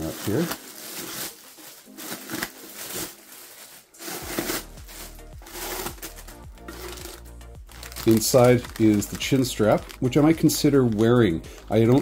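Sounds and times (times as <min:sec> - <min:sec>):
plastic bag rustling: 0:00.0 - 0:12.0
quiet background music: 0:00.0 - 0:12.0.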